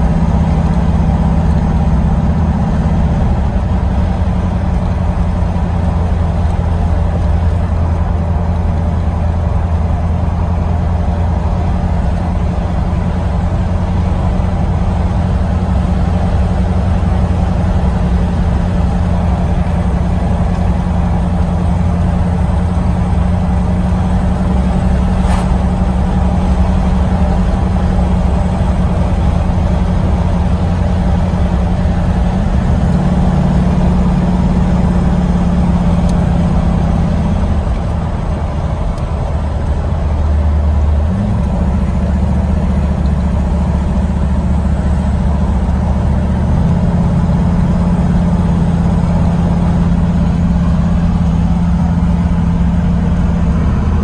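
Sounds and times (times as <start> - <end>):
car engine running: 0.0 - 54.0
road noise: 0.0 - 54.0.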